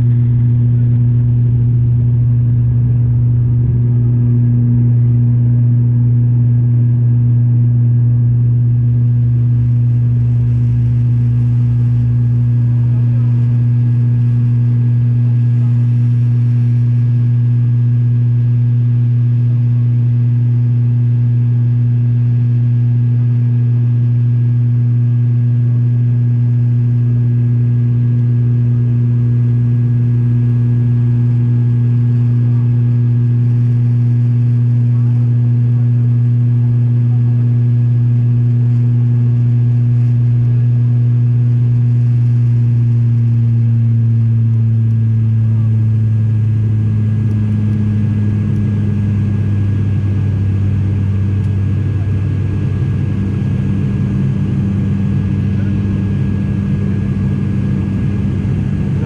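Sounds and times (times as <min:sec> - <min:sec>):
airliner engines droning in flight: 0:00.0 - 0:59.0.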